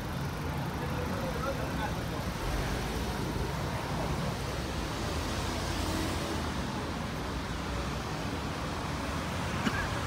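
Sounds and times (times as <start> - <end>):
cars driving past: 0.0 - 10.0.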